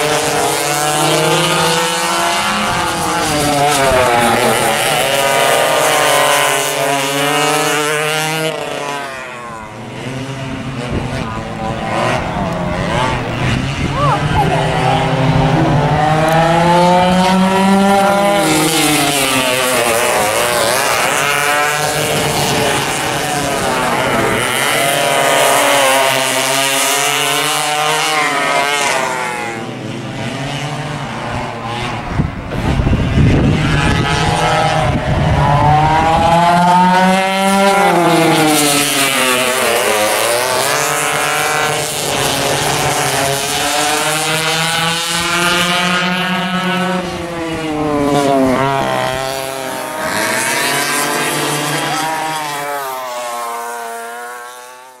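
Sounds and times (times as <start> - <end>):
go-kart engines revving: 0.0 - 55.0.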